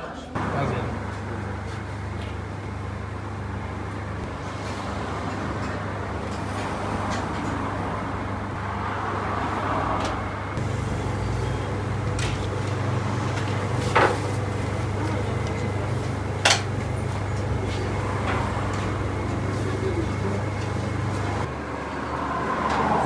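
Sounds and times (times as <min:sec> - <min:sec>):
low kitchen hum: 0:00.3 - 0:23.0.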